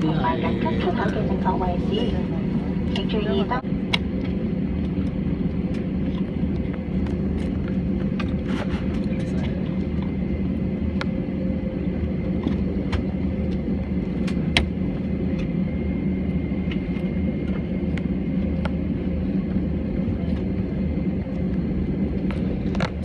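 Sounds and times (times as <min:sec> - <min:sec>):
low rumble of engines and cabin air: 0:00.0 - 0:23.0.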